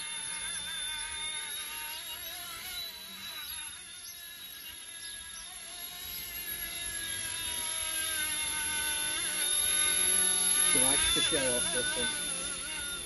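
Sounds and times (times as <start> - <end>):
rc helicopter motor whine: 0.0 - 13.0.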